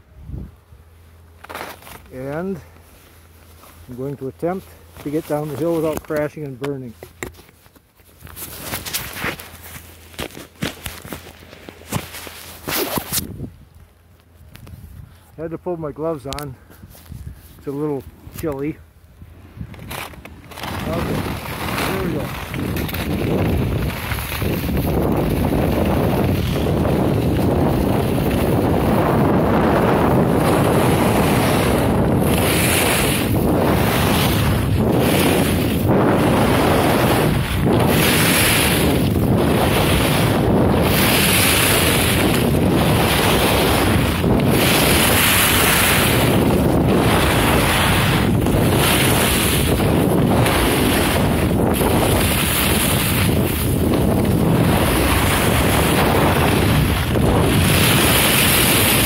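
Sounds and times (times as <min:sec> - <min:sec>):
wind rushing over microphone: 0:00.0 - 0:00.9, 0:08.2 - 0:13.8, 0:14.5 - 0:59.0
skis scraping over snow: 0:01.4 - 0:13.4, 0:14.7 - 0:18.8, 0:19.4 - 0:59.0.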